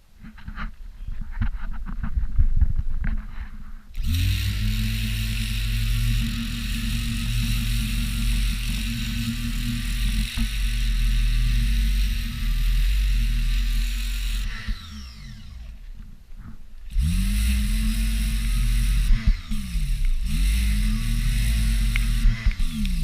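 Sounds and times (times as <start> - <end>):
engine running: 3.9 - 23.0.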